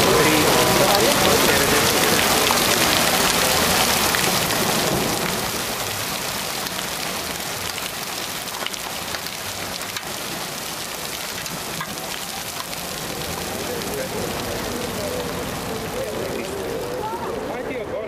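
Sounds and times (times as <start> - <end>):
rain on wet pavement: 0.0 - 18.0.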